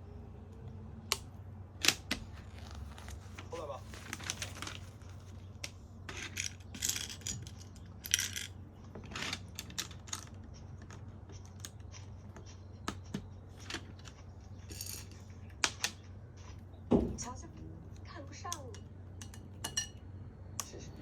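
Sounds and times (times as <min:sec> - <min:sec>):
faint steady low hum: 0:00.0 - 0:21.0.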